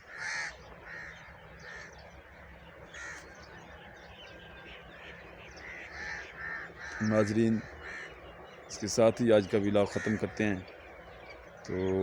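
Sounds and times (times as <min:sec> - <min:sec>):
crows cawing: 0:00.0 - 0:04.3, 0:04.9 - 0:08.8, 0:09.4 - 0:11.1
faint birds chirping: 0:00.0 - 0:12.0.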